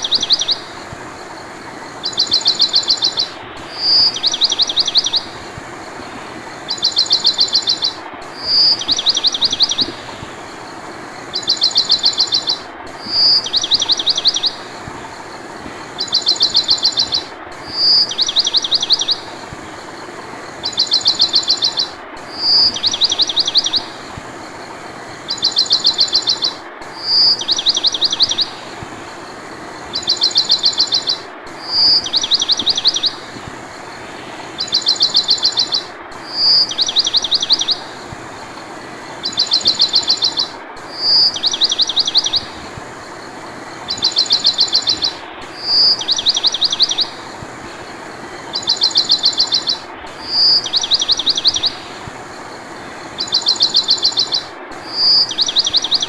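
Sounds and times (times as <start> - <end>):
bird whistle and trills: 0.0 - 56.0
steady hiss: 0.0 - 56.0.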